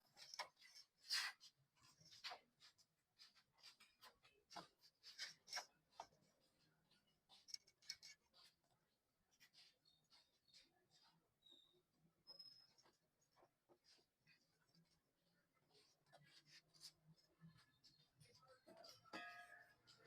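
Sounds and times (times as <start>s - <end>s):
faint clicks and scraping: 0.0s - 20.0s.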